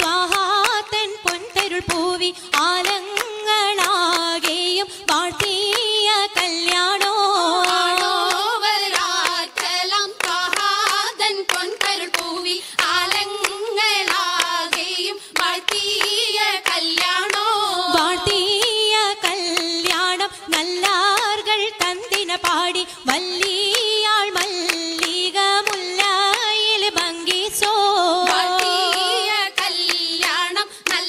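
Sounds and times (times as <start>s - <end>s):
rhythmic hand claps: 0.0s - 31.0s.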